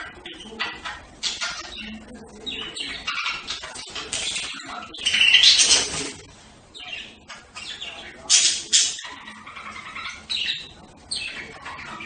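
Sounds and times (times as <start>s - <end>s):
budgerigars chirping and chattering: 0.0s - 12.0s.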